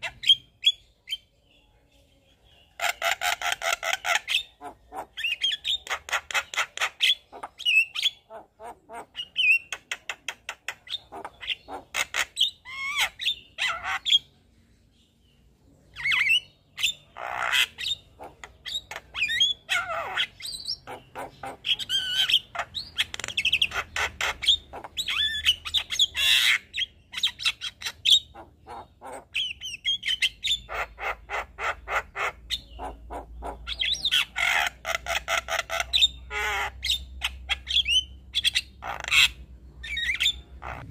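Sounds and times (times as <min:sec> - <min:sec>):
bird song with rattles and whistles: 0:02.7 - 0:08.2, 0:09.2 - 0:14.3, 0:15.9 - 0:40.9.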